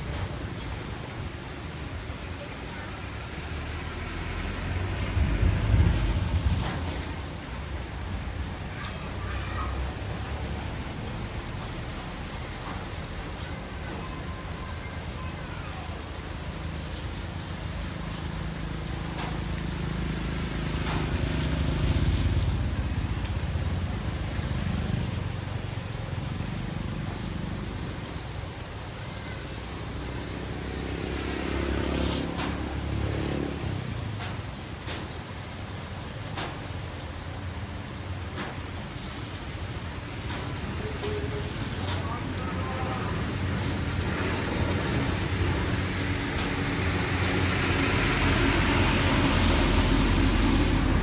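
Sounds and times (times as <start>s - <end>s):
steady rain: 0.0s - 51.0s
vehicles passing: 0.0s - 51.0s.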